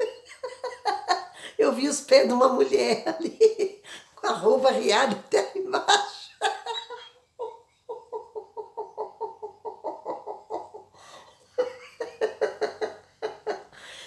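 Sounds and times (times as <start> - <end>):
woman laughing: 0.0 - 1.6, 2.6 - 14.0.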